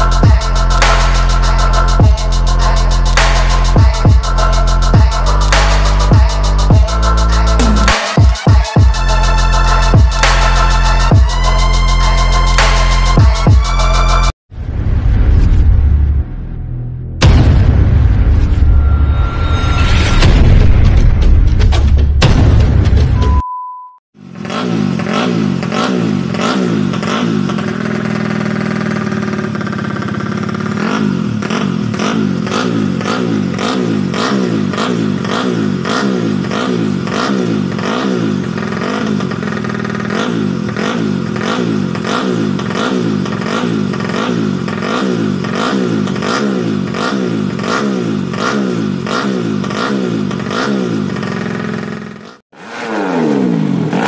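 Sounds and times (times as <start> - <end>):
motorcycle engine revving: 0.0 - 14.4, 24.2 - 54.0.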